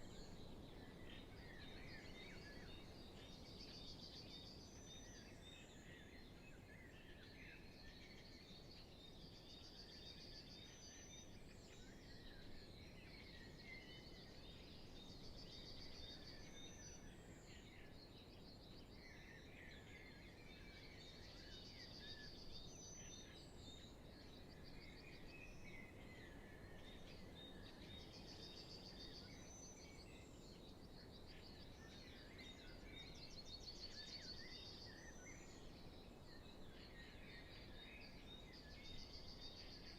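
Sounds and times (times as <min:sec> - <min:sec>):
low steady hiss: 0:00.0 - 0:39.9
songbirds singing: 0:00.0 - 0:39.9.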